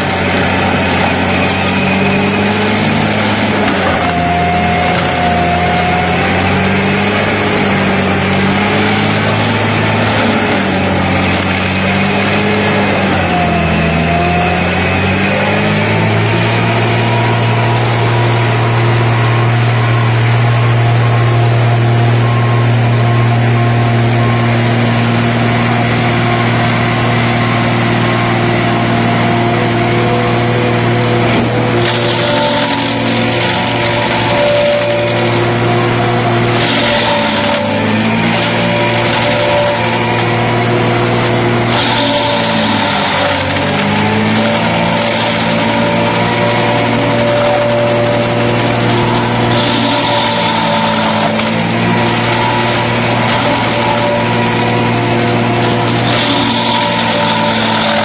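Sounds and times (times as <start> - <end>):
engine running loudly: 0.0 - 58.0.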